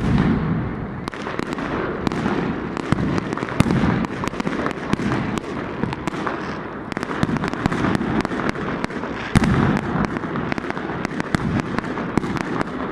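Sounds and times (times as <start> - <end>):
heavy firework boom: 0.0 - 12.4
fireworks bursts and cracks: 0.0 - 12.9.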